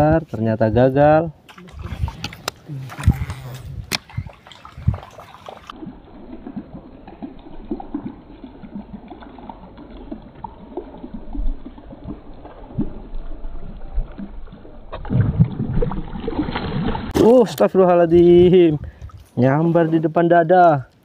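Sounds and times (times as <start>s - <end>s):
water lapping against boat hull: 1.4s - 19.8s.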